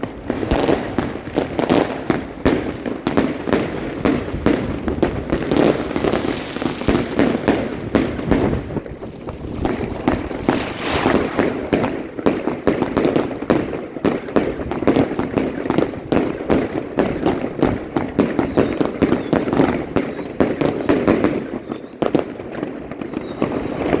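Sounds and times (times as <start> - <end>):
fireworks crackling pops: 0.0 - 24.0.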